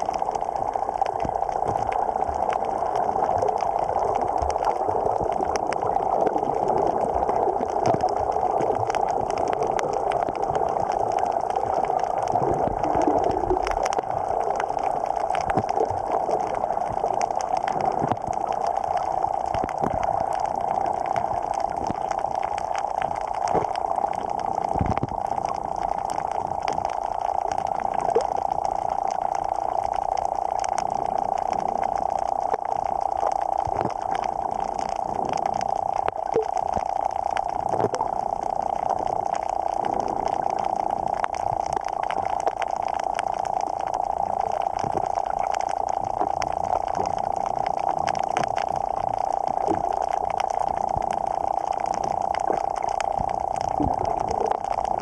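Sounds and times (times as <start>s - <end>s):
clicks and crackles: 0.0s - 55.0s
muffled underwater rush: 0.0s - 55.0s.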